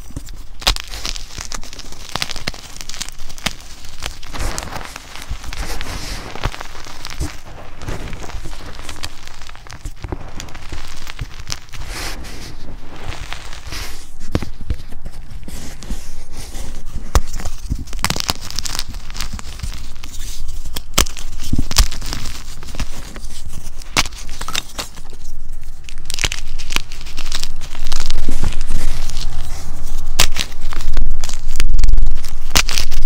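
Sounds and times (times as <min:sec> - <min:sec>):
chalk crunching and cracking: 0:00.0 - 0:33.0
powder rustling: 0:00.0 - 0:33.0.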